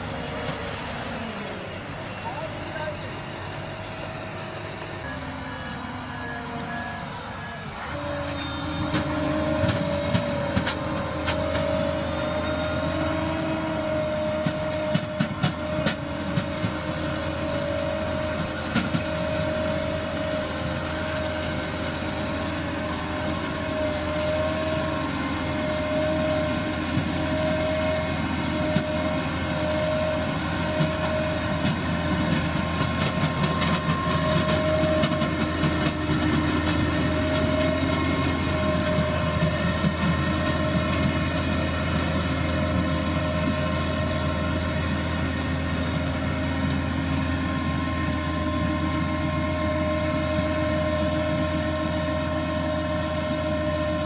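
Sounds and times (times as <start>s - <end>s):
harvester engine drone: 0.0s - 54.0s.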